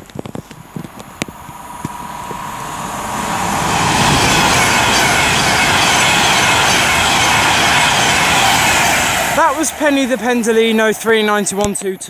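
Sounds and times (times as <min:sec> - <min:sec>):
electric train passing at speed: 0:00.0 - 0:12.0.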